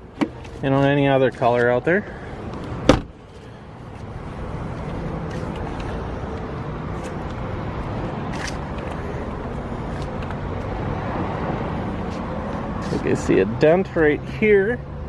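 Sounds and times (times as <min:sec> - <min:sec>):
low vehicle hum: 0:00.0 - 0:15.0.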